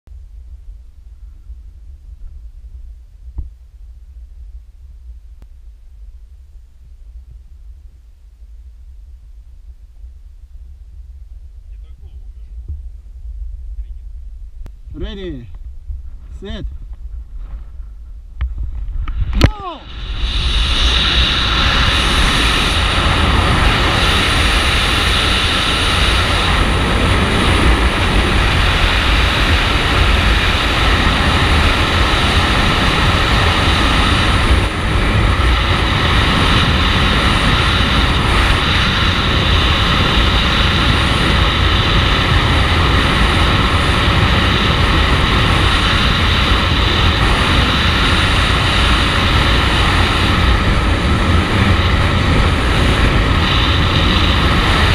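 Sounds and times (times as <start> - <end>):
wind roaring over microphone: 0.1 - 54.9.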